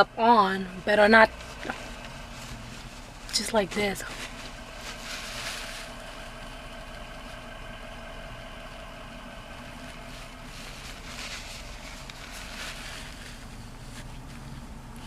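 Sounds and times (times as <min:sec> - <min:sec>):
car engine idling hum: 0:00.0 - 0:15.0
soft rustle: 0:00.8 - 0:15.0.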